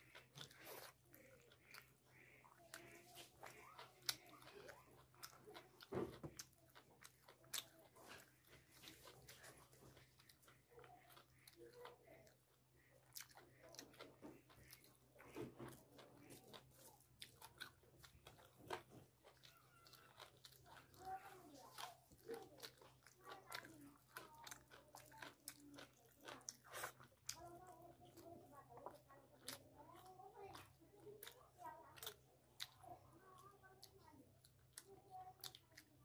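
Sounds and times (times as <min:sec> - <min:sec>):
man chewing food: 0:00.0 - 0:36.0.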